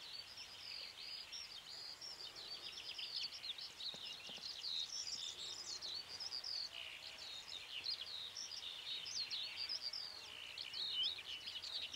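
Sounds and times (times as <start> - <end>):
songbird chirping and trilling: 0.0 - 11.9.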